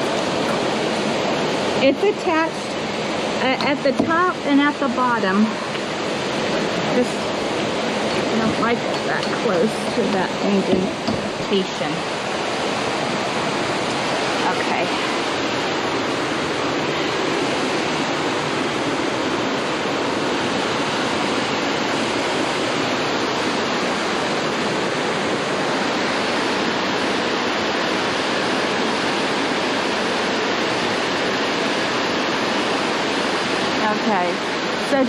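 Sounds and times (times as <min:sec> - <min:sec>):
water rushing into lock: 0:00.0 - 0:35.0.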